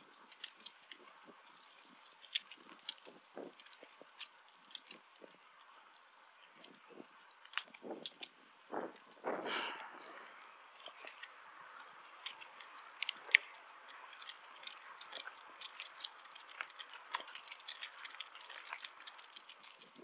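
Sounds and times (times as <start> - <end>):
bicycle clicks and rattles: 0.0 - 9.3, 10.4 - 20.0
soft steady hiss: 0.0 - 20.0.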